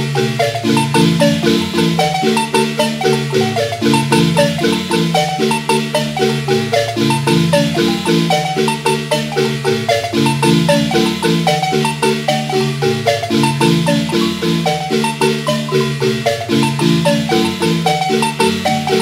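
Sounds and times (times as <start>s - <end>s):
marimba music: 0.0s - 19.0s.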